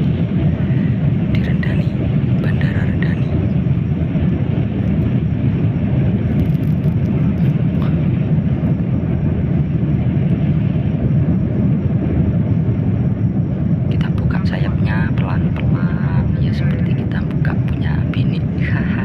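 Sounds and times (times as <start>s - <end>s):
jet engine drone and rushing air: 0.0s - 19.0s.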